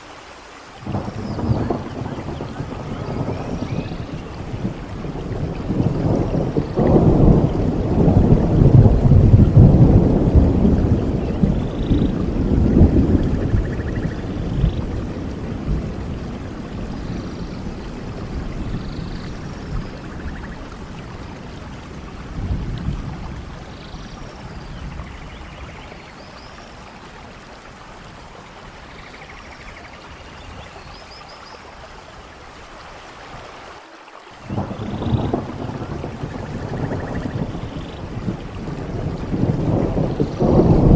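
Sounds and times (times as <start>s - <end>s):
heavy rain: 0.0s - 40.9s
low thunder rumbling: 0.8s - 31.0s, 34.4s - 40.9s.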